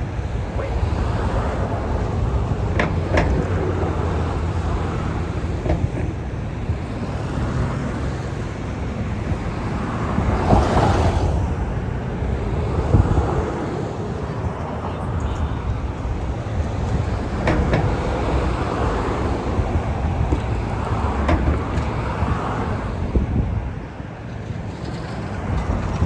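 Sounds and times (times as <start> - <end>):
traffic rumble of engines and tyres: 0.0 - 26.0.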